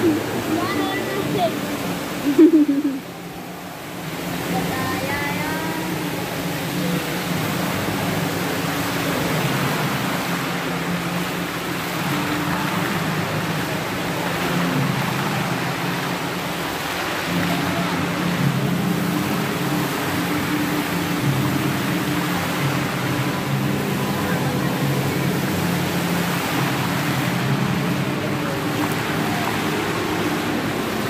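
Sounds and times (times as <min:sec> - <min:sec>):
fountain water splashing: 0:00.0 - 0:31.0.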